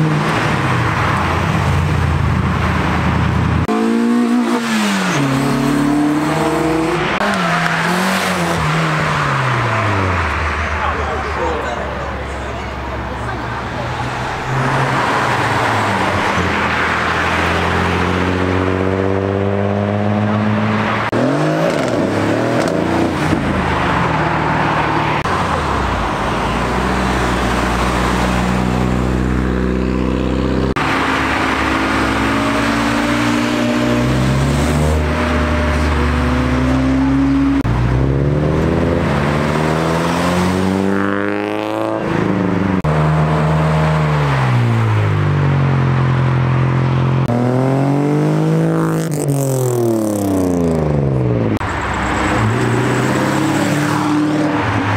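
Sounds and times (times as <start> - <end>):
car engines accelerating: 0.0 - 54.9.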